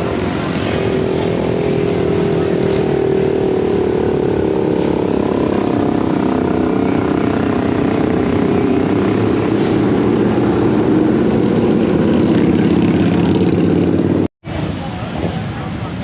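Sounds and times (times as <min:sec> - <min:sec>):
loud engine running: 0:00.0 - 0:14.3.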